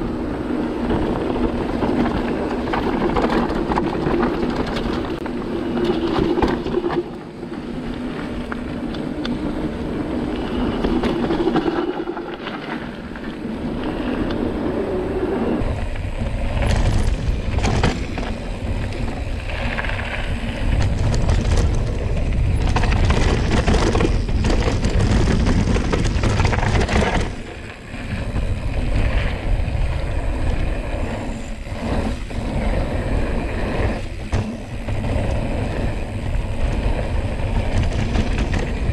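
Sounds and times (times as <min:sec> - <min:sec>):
bike tyres rolling on dirt: 0:00.0 - 0:38.9.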